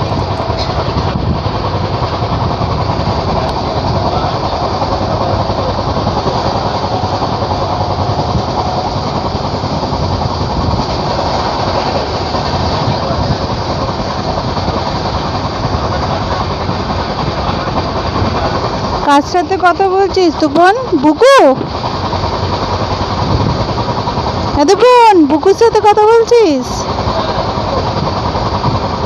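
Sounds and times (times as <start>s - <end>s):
moving train running noise: 0.0s - 29.0s.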